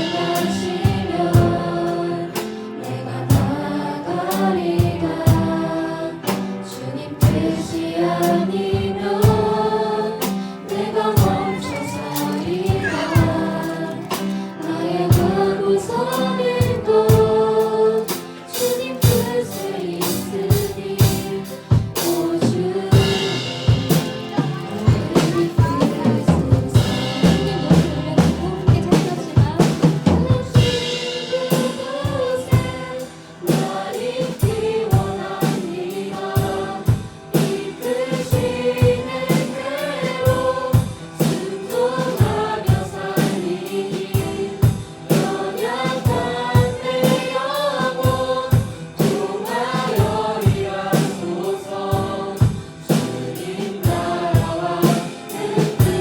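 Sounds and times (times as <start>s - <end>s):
drum kit beat: 0.0s - 2.0s, 8.2s - 56.0s
piano: 0.0s - 56.0s
voices singing together: 0.0s - 56.0s.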